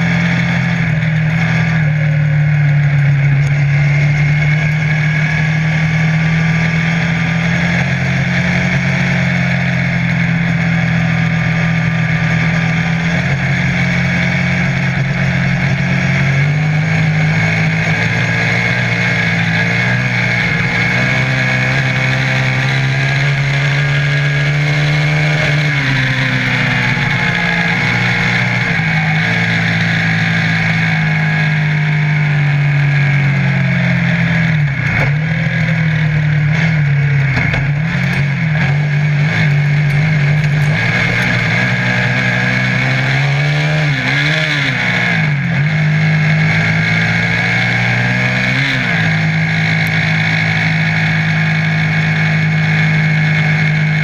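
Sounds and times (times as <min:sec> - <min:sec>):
buggy engine running: 0:00.0 - 0:54.0.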